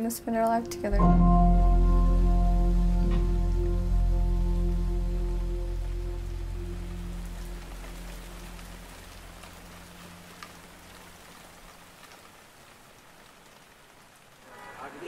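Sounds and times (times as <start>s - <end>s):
soft music: 0.0s - 12.2s
steady rain: 0.0s - 15.0s.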